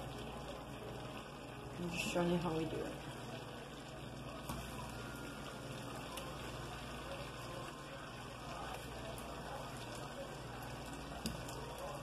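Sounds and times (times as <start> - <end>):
plantain sizzling in frying pan: 0.0 - 12.0.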